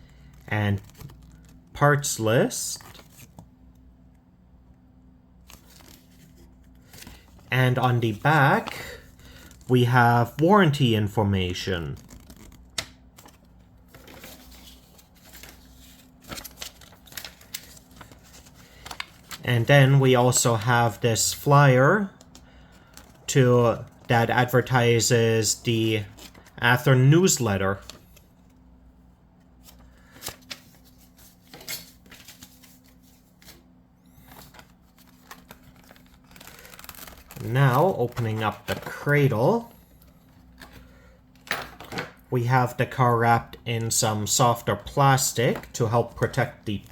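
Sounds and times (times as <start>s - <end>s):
paper leaflets rustling: 0.0s - 3.6s, 5.4s - 28.6s, 29.5s - 41.0s
low steady hum: 0.0s - 46.9s.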